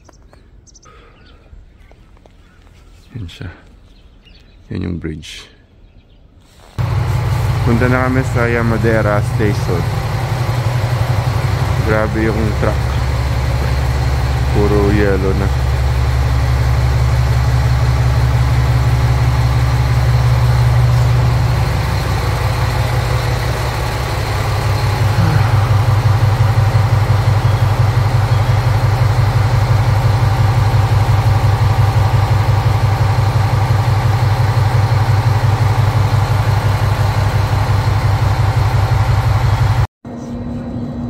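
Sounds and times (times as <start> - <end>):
large engine idling: 6.8 - 41.0.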